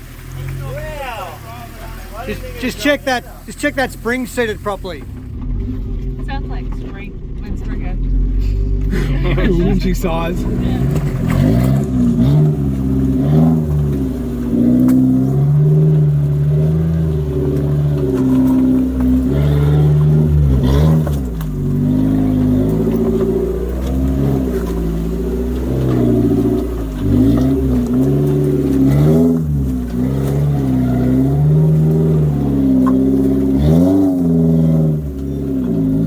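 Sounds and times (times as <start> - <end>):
engine revving up and down: 0.4 - 36.0.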